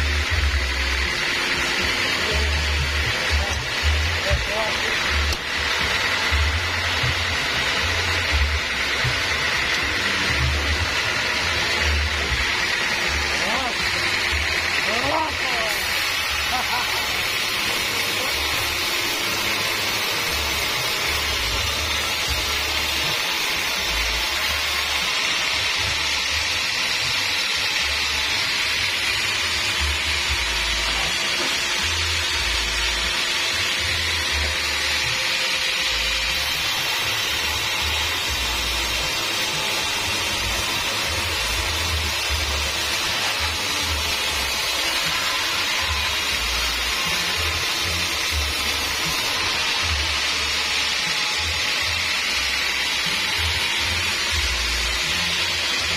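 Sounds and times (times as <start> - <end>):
band saw cutting log: 0.0 - 55.9.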